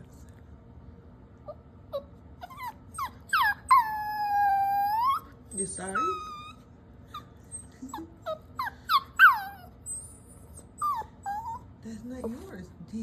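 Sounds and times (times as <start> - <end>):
dog whining: 1.4 - 12.4.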